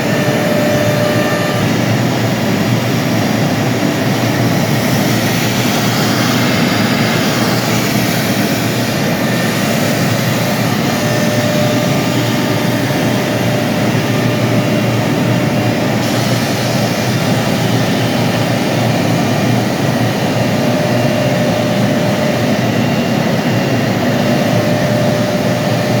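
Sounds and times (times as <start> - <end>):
milling machine running: 0.0 - 26.0.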